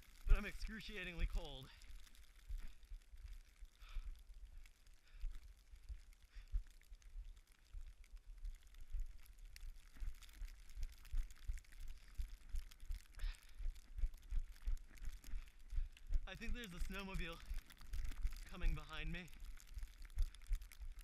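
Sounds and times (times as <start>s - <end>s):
running footsteps in snow: 0.0s - 21.0s.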